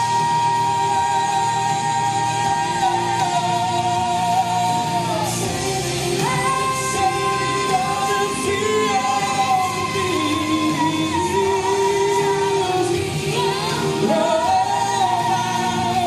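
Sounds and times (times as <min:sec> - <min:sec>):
full band backing: 0:00.0 - 0:16.0
male and female duet singing: 0:00.0 - 0:16.0.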